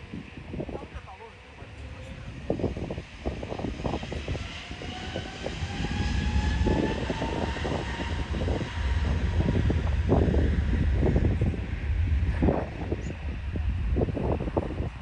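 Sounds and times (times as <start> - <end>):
distant jet engine whine: 0.0 - 15.0
wind on microphone: 0.0 - 15.0.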